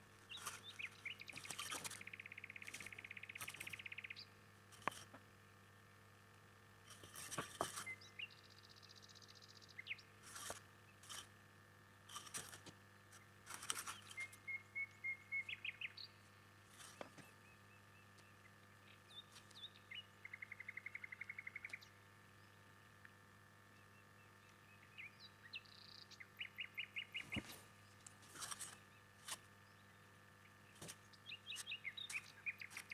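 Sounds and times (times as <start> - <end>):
steady low hum: 0.0 - 32.9
small bird chirps and trills: 0.2 - 5.1, 6.9 - 11.3, 12.1 - 32.9.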